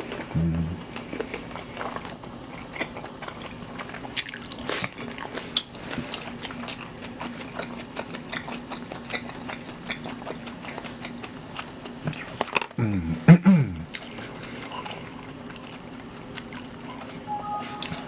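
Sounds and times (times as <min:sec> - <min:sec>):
low steady hum: 0:00.0 - 0:18.0
man chewing food: 0:00.0 - 0:18.0.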